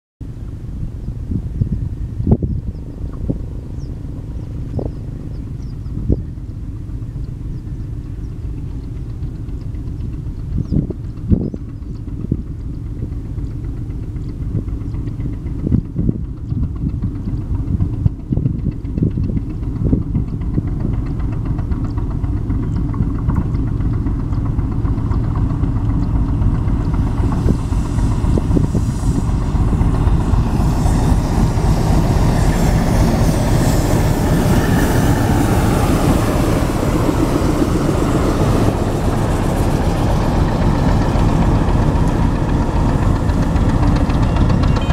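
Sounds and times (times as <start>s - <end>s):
diesel locomotive engine rumble: 0.2s - 44.9s.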